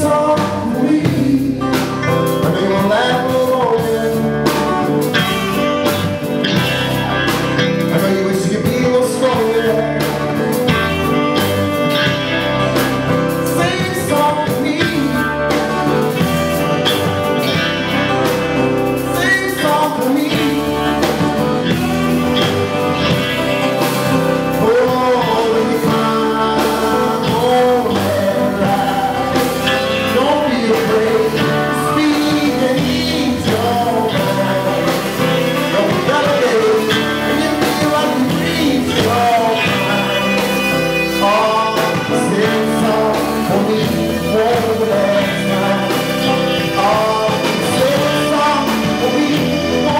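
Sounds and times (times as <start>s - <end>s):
lead singer: 0.0s - 49.9s
live rock band playing: 0.0s - 49.9s.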